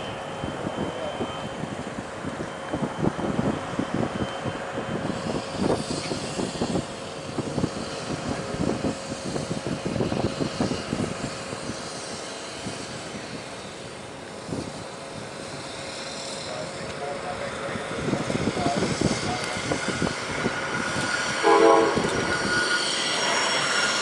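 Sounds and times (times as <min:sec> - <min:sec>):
jet engine rumble and whine: 0:00.0 - 0:24.0.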